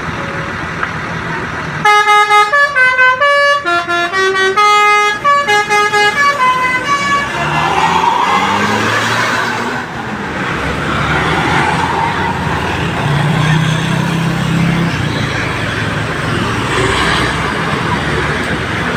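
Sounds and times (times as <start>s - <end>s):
large vehicle engine drone: 0.0s - 18.9s
road traffic noise: 0.0s - 18.9s.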